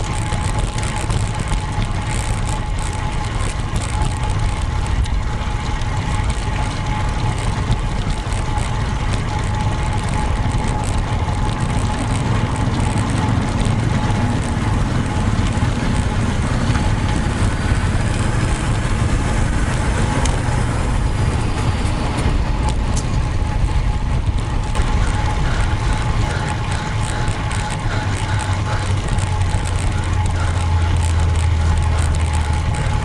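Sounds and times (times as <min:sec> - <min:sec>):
bicycle road noise: 0:00.0 - 0:33.0
faint steady whine: 0:00.0 - 0:33.0
wind rush: 0:00.0 - 0:33.0.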